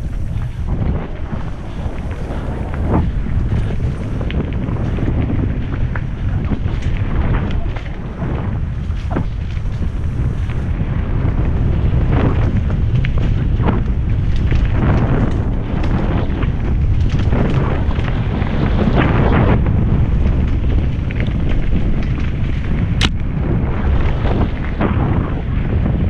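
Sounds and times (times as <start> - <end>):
bike rattling and knocking: 0.0 - 25.8
wind buffeting microphone: 0.0 - 26.0.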